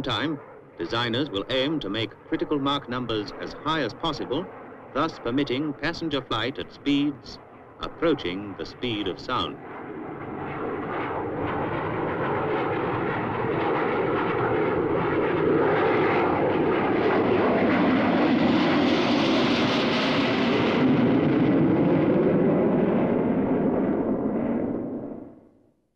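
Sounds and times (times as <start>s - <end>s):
jet engine roar: 0.0s - 25.4s.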